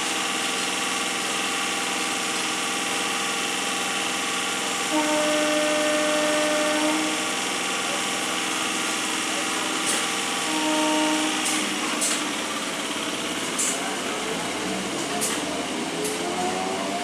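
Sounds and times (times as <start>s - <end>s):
electric train motor whine: 0.0s - 17.0s.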